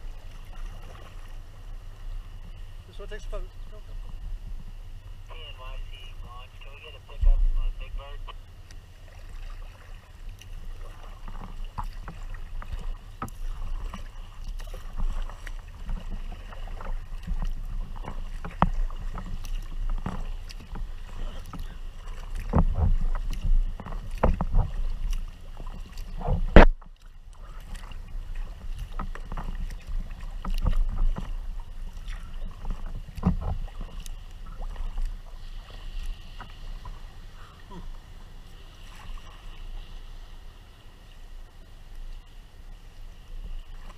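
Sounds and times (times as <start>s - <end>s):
paddle splashes: 0.0s - 43.9s
water slapping hull: 0.0s - 43.9s.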